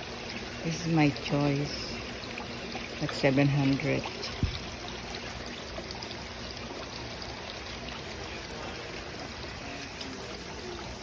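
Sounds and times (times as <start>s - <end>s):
fountain water trickling: 0.0s - 11.0s.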